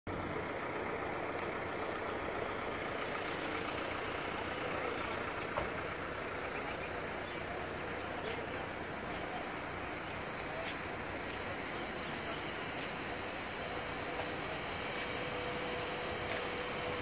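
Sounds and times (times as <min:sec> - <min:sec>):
engine-like hum: 0:00.1 - 0:17.0.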